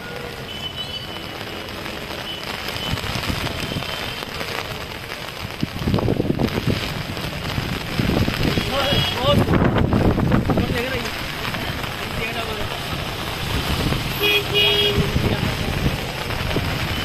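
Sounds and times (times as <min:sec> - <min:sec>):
heavy rain on an umbrella: 0:00.0 - 0:17.0.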